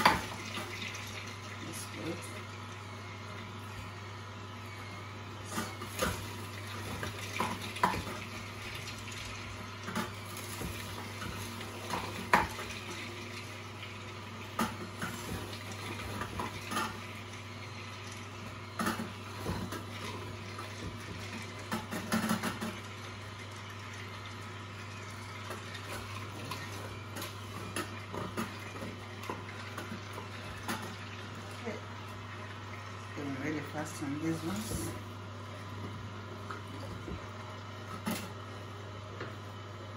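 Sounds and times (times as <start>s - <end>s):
juicer humming: 0.0s - 39.9s.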